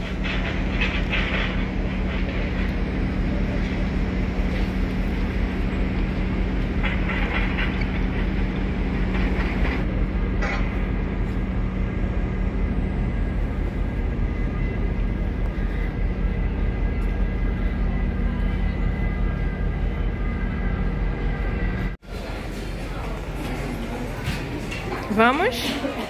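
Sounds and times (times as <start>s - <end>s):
low machine rumble: 0.0s - 26.0s.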